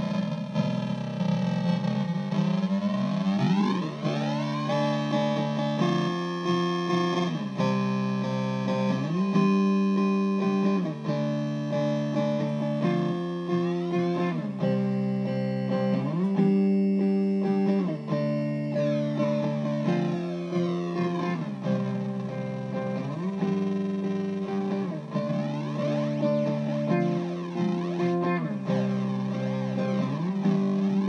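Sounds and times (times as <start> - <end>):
distorted electric guitar phrase: 0.0 - 31.0.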